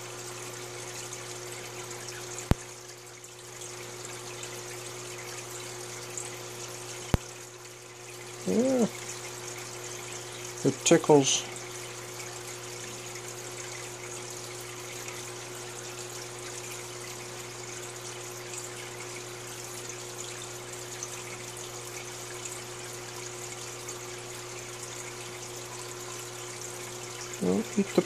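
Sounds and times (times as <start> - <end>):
aquarium filter hum: 0.0 - 28.0
water trickling: 0.0 - 28.0.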